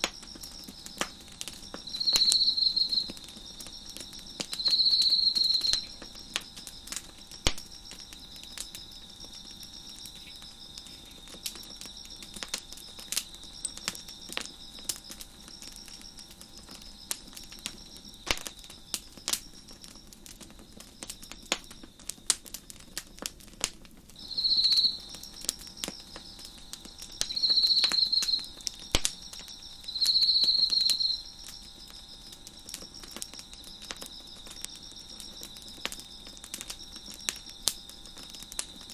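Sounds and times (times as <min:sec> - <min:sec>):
loud cricket trill: 0:00.0 - 0:23.3, 0:24.2 - 0:38.9
crickets chirping: 0:00.0 - 0:38.9
wood fire crackling and popping: 0:00.0 - 0:38.9.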